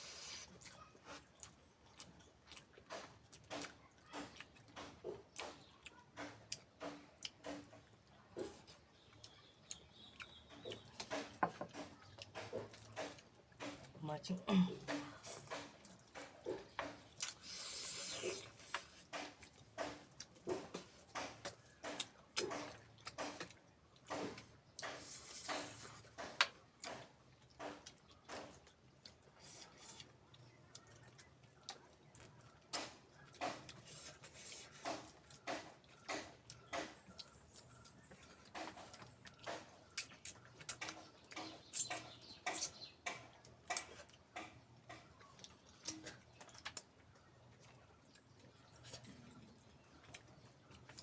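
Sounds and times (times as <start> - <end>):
wet chewing and lip smacks: 0.0 - 14.0, 14.8 - 51.0.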